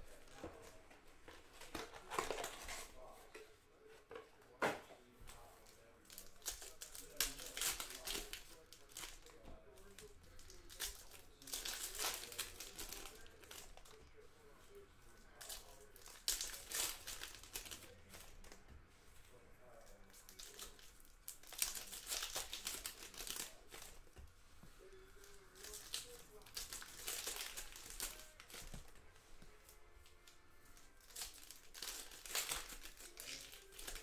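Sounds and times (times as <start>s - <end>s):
card pack wrappers crinkling and tearing: 0.0s - 3.2s, 5.6s - 14.2s, 15.1s - 18.6s, 19.7s - 24.1s, 24.8s - 34.0s.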